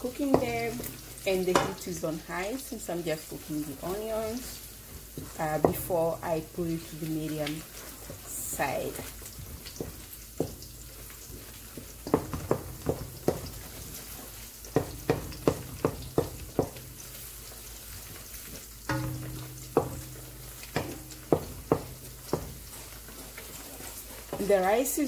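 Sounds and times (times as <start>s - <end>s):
wooden spoon scraping metal pot: 0.0s - 2.0s, 3.1s - 24.8s
onions sizzling in oil: 0.0s - 25.0s.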